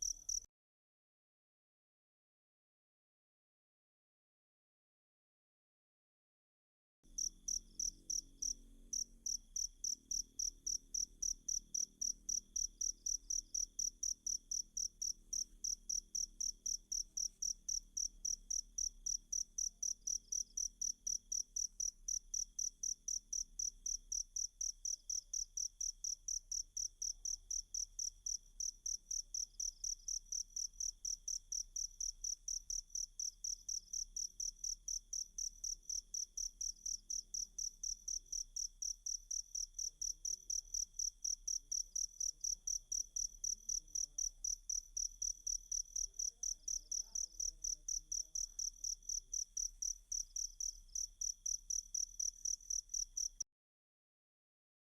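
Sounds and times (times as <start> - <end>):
cricket chirping: 0.0 - 0.5, 7.1 - 53.4.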